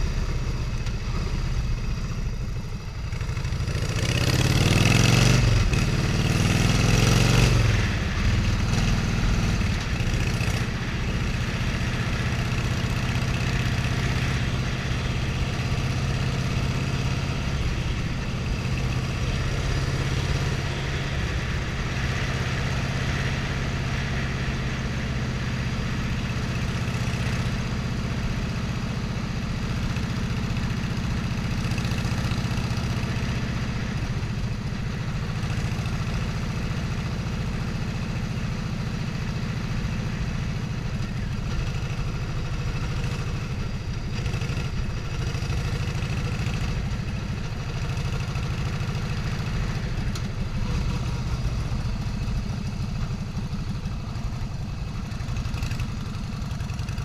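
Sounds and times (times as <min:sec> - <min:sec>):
vehicle engine humming: 0:00.0 - 0:57.0.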